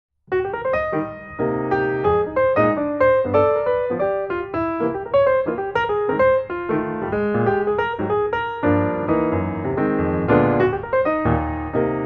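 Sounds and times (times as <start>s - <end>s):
piano music: 0.3s - 12.0s.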